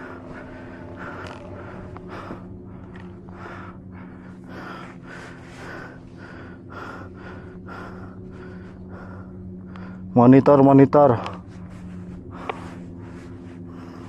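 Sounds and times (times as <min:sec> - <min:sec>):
heavy rapid breathing: 0:00.0 - 0:10.2, 0:11.1 - 0:14.0.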